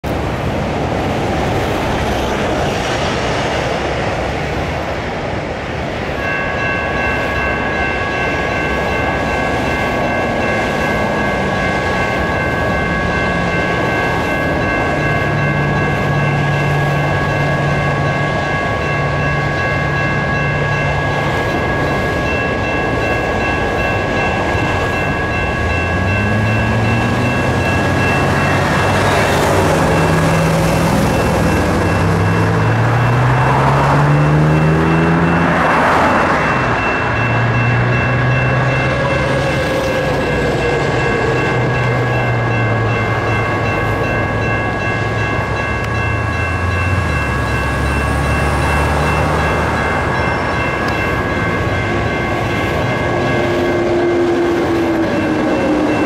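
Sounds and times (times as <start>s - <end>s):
road traffic: 0.0s - 56.0s
railroad crossing bell ringing: 0.1s - 56.0s.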